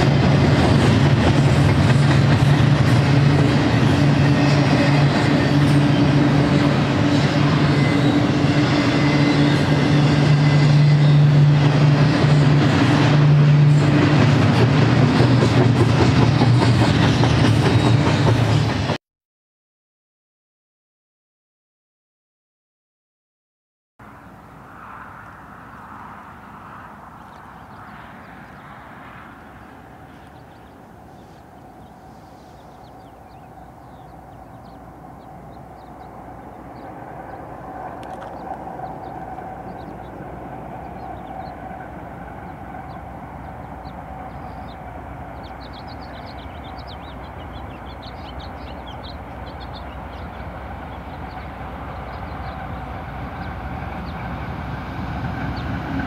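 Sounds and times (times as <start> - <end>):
freight train rumbling: 0.0 - 19.0, 25.7 - 56.0.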